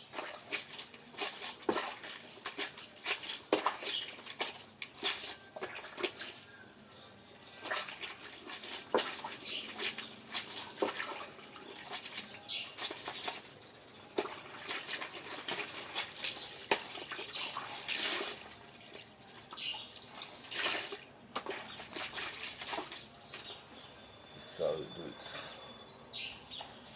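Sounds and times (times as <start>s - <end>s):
wet fabric splashing in water: 0.0s - 23.9s.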